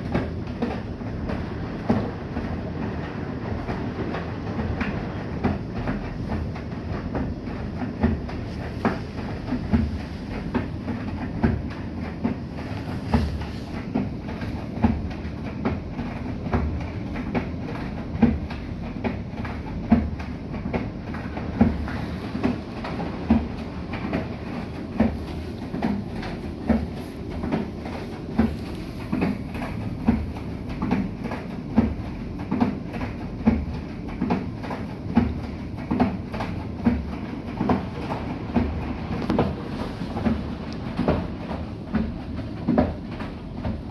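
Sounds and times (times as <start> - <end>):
laundry thudding in drum: 0.0 - 43.9
washing machine drum rumbling: 0.0 - 43.9.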